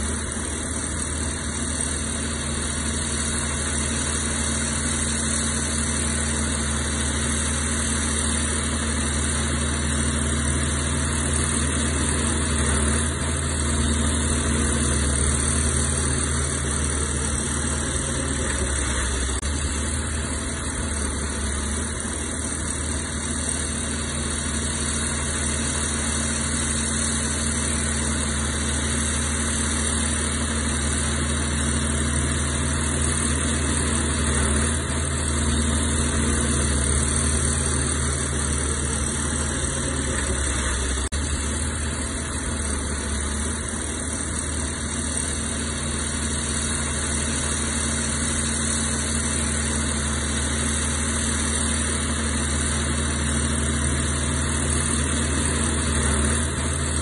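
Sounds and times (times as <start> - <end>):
diesel machinery engine running: 0.0 - 57.0.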